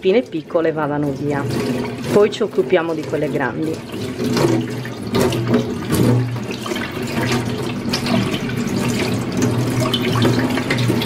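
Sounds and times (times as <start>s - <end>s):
tap water splashing into sink: 0.0s - 11.0s.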